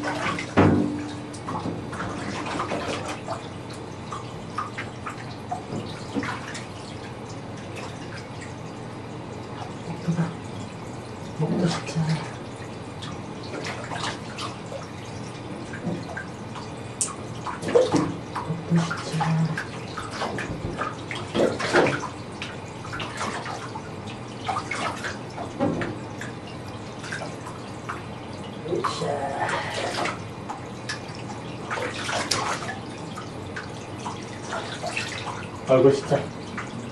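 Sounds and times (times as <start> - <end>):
water splashing into bathtub: 0.0 - 36.9.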